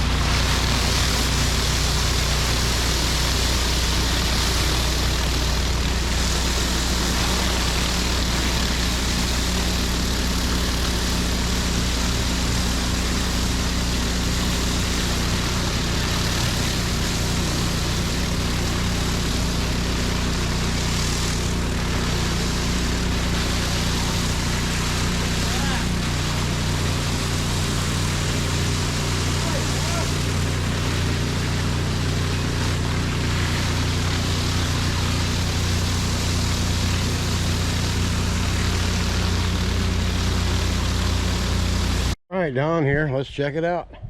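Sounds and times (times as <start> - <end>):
high-pressure water hissing: 0.0 - 42.2
pressure washer engines running: 0.0 - 42.2.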